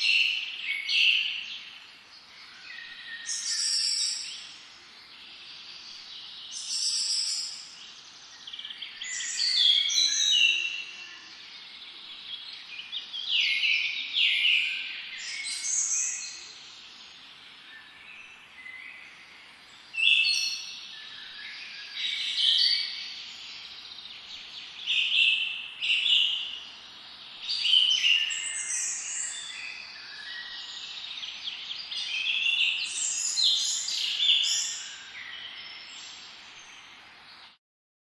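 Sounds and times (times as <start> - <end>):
steady background hiss: 0.0 - 37.5
songbirds singing: 0.0 - 37.6.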